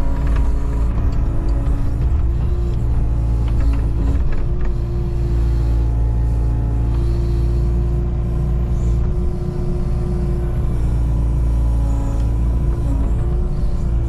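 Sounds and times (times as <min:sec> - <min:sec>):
diesel engine running under load: 0:00.0 - 0:14.0
hydraulic whine: 0:00.0 - 0:14.0.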